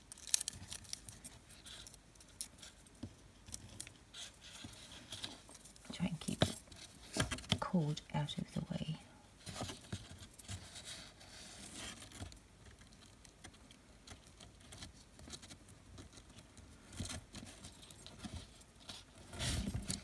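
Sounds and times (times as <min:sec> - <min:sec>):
cord rustling against fingers: 0:00.0 - 0:07.7, 0:09.4 - 0:20.0.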